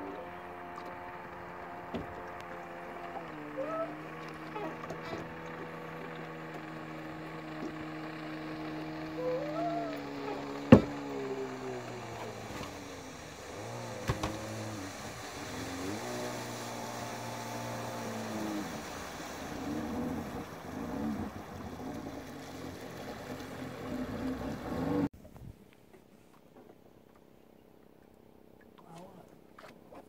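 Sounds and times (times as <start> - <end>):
jet ski engine running: 0.0 - 25.1.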